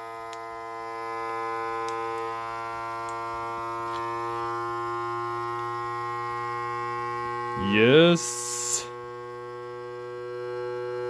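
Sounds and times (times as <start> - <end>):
vacuum sealer pump humming: 0.0 - 11.0.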